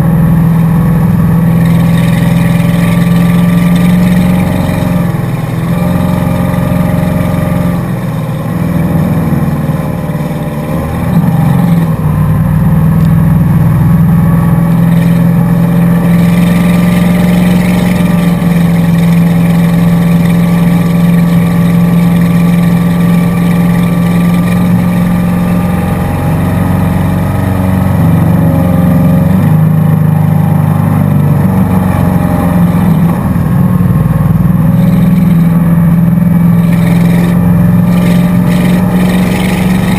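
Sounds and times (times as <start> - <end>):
motorboat engine drone: 0.0 - 39.9.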